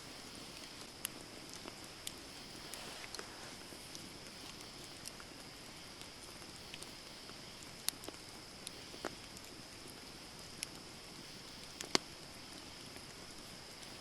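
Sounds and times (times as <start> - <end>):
campfire crackling and popping: 0.0 - 14.0
high-pitched hiss: 0.0 - 14.0.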